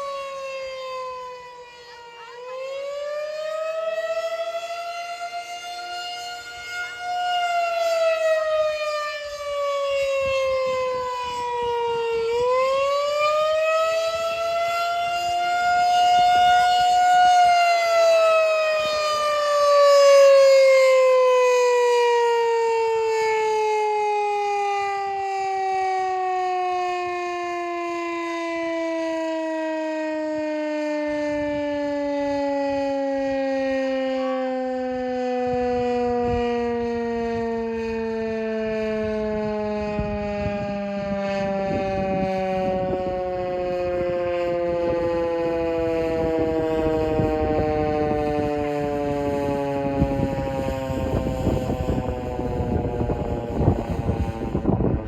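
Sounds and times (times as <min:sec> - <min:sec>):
tornado warning siren wailing: 0:00.0 - 0:55.0.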